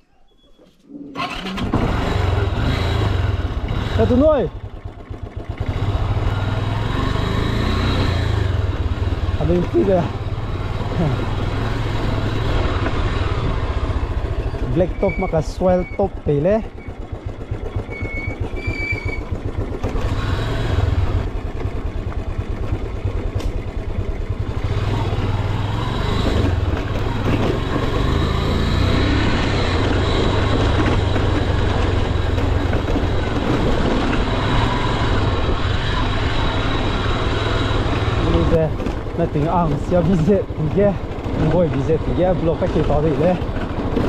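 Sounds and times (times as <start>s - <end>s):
engine throbbing: 1.1s - 44.0s.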